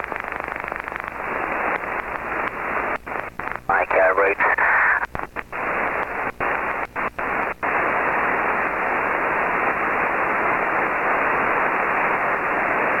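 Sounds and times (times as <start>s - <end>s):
radio receiver hiss: 0.0s - 13.0s.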